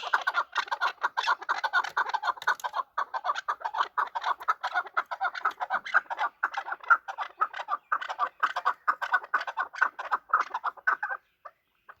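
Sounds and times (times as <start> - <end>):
partridge calling: 0.0 - 12.0.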